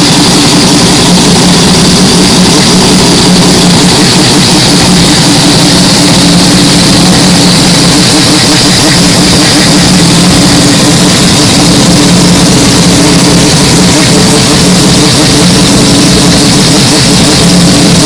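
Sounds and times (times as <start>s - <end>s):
rotary engine running: 0.0s - 18.0s.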